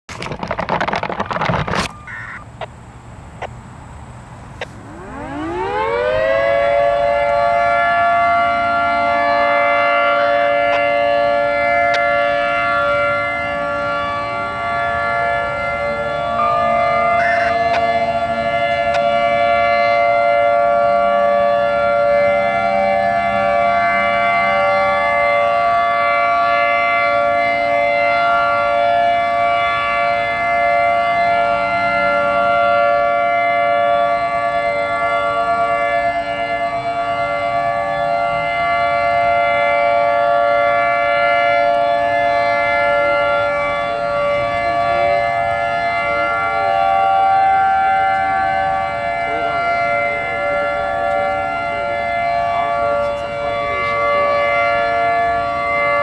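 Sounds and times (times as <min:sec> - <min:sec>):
outdoor warning sirens: 0:00.1 - 0:56.0.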